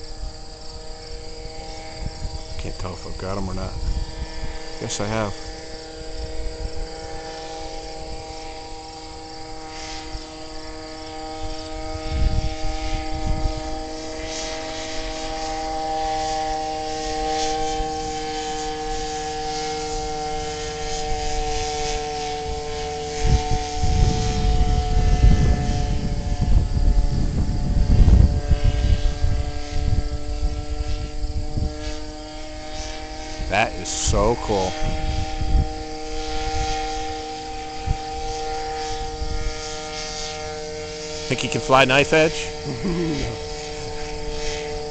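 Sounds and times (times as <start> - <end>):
model aircraft engine droning: 0.0 - 44.9
wind buffeting microphone: 0.0 - 44.9.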